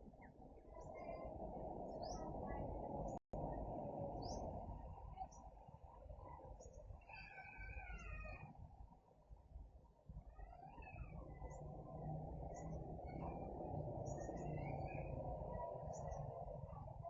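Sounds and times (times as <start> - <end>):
small birds chirping: 0.0 - 8.4, 10.1 - 17.0
low background rumble: 0.0 - 17.0.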